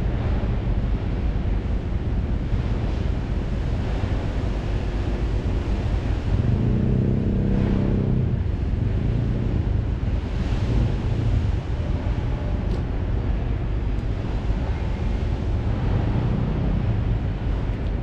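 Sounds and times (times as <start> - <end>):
low engine drone: 0.0 - 18.0
wind buffeting microphone: 0.0 - 18.0.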